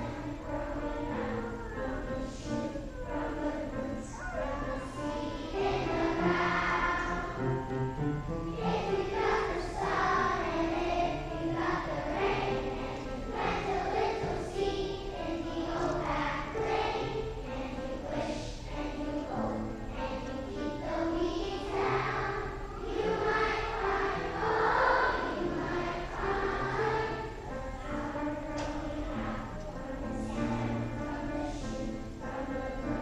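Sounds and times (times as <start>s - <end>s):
children's choir singing: 0.0s - 33.0s.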